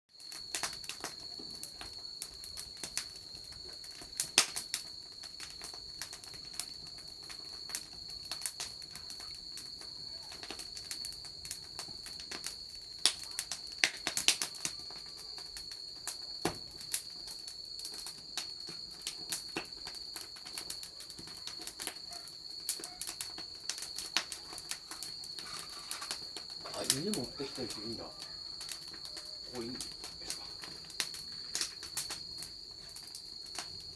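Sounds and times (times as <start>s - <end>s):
high insect trill: 0.1s - 33.9s
wood fire crackling: 0.1s - 33.9s.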